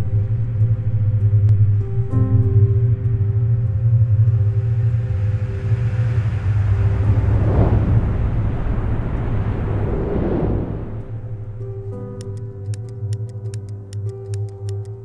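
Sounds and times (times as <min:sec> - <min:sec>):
whooshing swell: 0:00.0 - 0:12.2
deep rumbling drone: 0:00.0 - 0:13.2.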